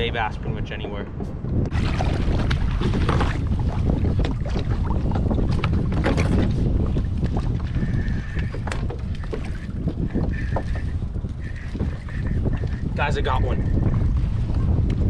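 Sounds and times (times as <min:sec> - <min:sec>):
wind buffeting microphone: 0:00.0 - 0:15.0
water splashing against kayak hull: 0:01.2 - 0:15.0.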